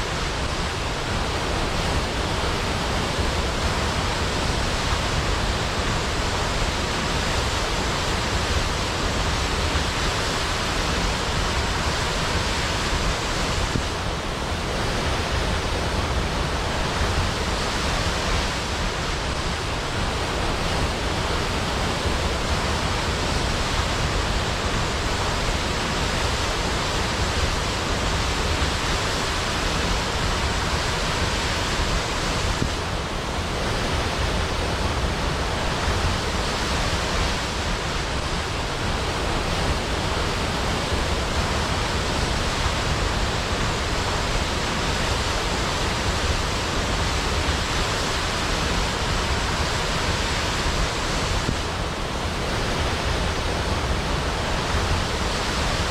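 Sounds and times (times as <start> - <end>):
waterfall rushing into pool: 0.0 - 55.9.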